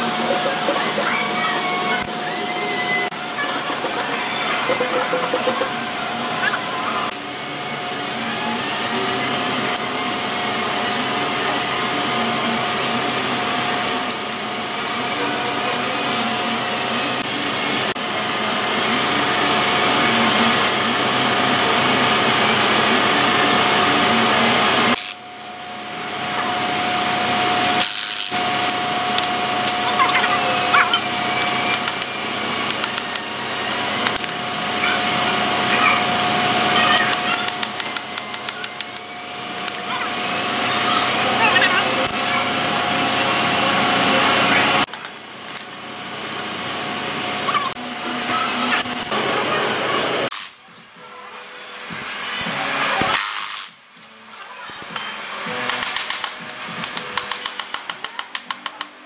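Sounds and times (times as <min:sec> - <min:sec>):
workshop machine whining: 0:00.0 - 0:59.0.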